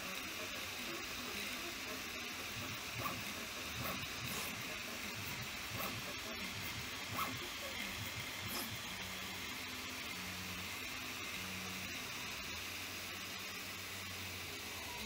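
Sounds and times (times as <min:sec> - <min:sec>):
fan hiss: 0:00.0 - 0:15.0
printer motors moving: 0:00.0 - 0:15.0.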